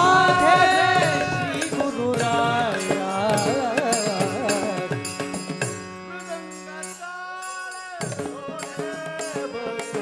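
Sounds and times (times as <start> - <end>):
hand percussion: 0.0 - 10.0.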